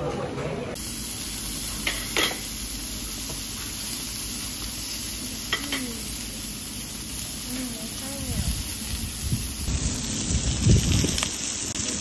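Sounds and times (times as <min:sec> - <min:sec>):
meat sizzling on grill: 0:00.8 - 0:12.0.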